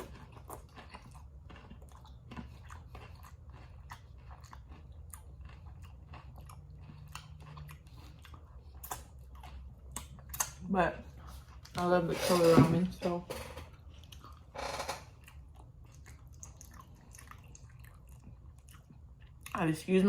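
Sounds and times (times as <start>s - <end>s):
person chewing food: 0.0s - 11.9s, 13.7s - 19.7s.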